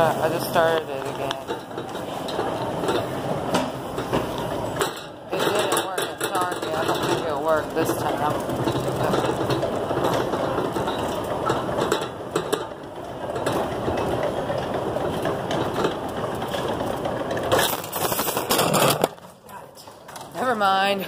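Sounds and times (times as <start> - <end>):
wire shopping cart rattling: 0.0 - 19.4.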